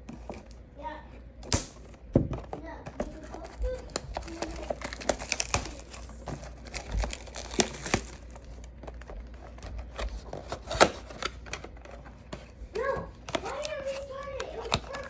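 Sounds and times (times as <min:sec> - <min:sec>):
plastic wrapping crinkling: 0:01.8 - 0:15.0.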